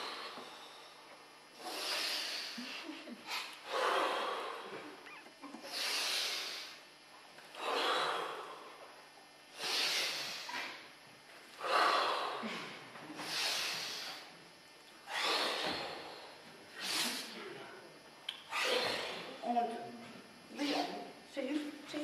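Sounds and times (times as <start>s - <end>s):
people breathing forcefully: 0.0s - 14.4s, 15.0s - 17.6s, 18.5s - 19.4s.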